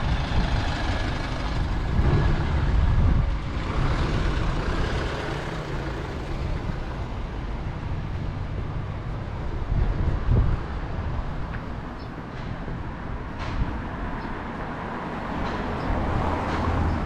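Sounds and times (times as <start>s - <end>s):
gusty wind on microphone: 0.0s - 17.0s.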